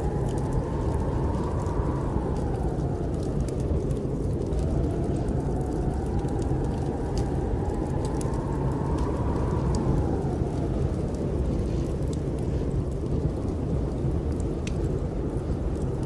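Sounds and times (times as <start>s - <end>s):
howling wind: 0.0s - 16.0s
wood fire crackling: 0.0s - 16.0s.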